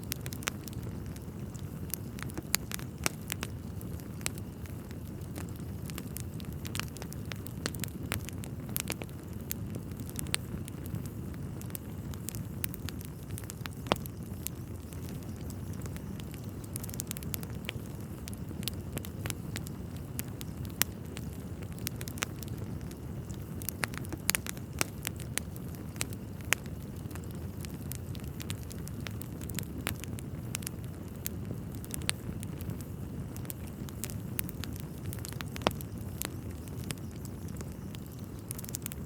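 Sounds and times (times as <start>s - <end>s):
fire crackling and popping: 0.0s - 39.0s
fire rumbling in fireplace: 0.0s - 39.0s.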